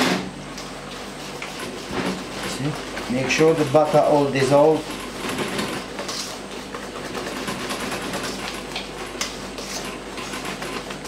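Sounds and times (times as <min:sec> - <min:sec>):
wire whisk scraping metal bowl: 0:01.3 - 0:08.5, 0:09.2 - 0:10.9.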